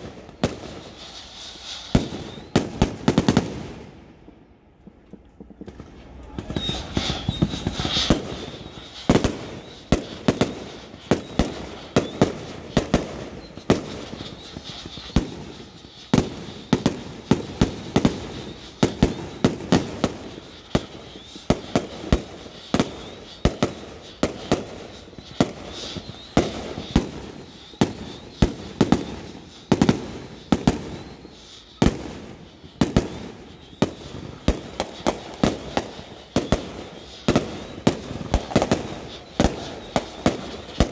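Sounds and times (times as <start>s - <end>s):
fireworks and firecrackers banging: 0.0s - 40.9s.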